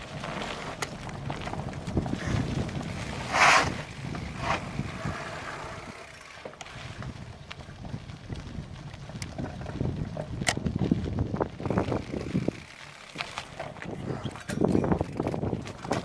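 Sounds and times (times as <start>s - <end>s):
bicycle rattling on rough trail: 0.0s - 16.0s.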